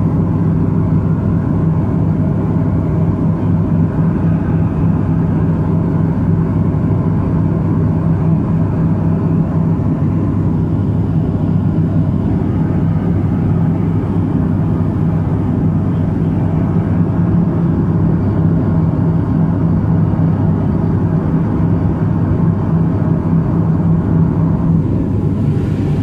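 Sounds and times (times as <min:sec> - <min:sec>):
turboprop aircraft drone: 0:00.0 - 0:26.0.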